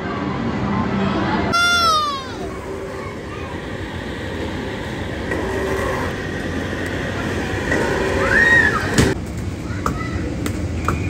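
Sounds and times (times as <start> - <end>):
busy indoor play centre rumble: 0.0 - 11.0.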